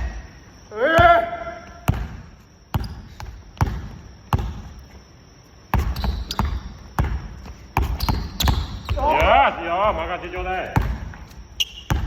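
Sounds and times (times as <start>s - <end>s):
basketballs bouncing on wooden floor: 0.9s - 4.8s, 5.7s - 12.0s.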